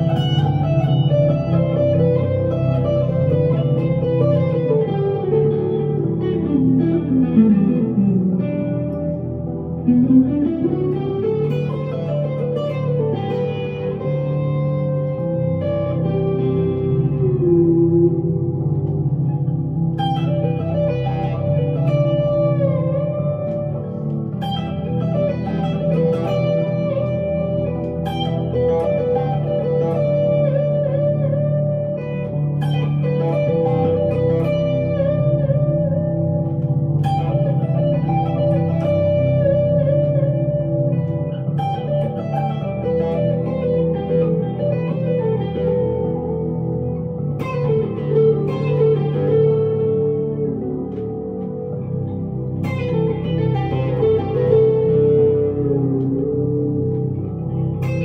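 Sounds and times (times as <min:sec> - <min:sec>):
electric guitar melodic lead: 0:00.0 - 0:58.0.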